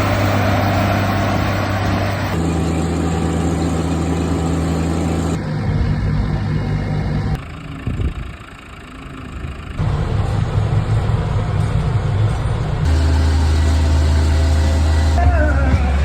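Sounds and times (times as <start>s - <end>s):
tractor engines running: 0.0s - 16.0s.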